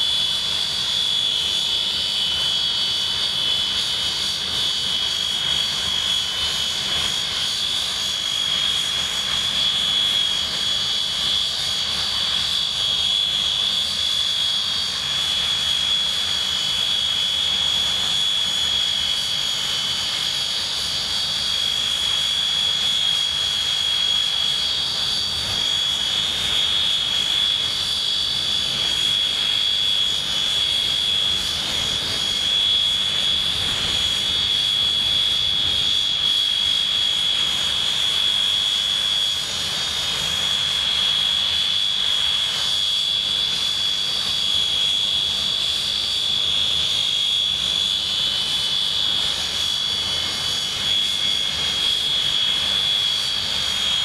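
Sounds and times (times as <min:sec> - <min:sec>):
jet engines idling: 0:00.0 - 0:54.0.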